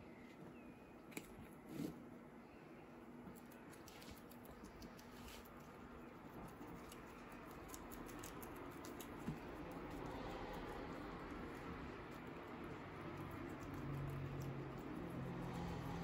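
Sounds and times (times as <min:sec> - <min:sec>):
guinea pigs munching lettuce: 0:03.1 - 0:16.0.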